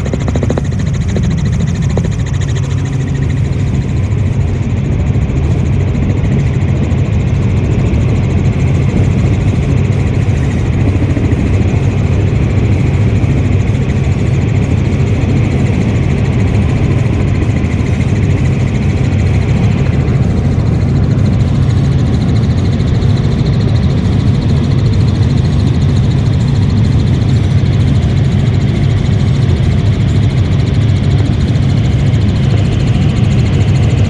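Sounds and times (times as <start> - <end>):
helicopter engine and rotor drone: 0.0 - 34.0.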